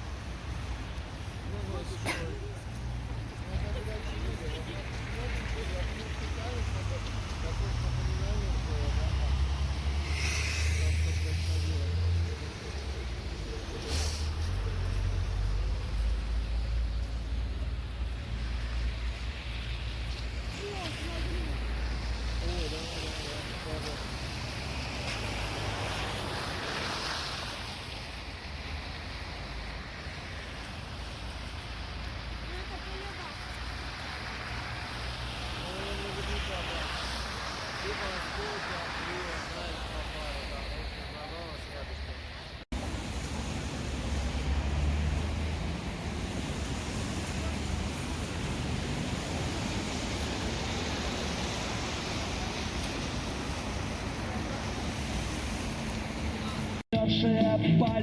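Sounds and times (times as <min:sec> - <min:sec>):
low traffic rumble: 0:00.0 - 0:58.0
vehicle passing hiss: 0:03.7 - 0:17.4, 0:18.3 - 0:56.8.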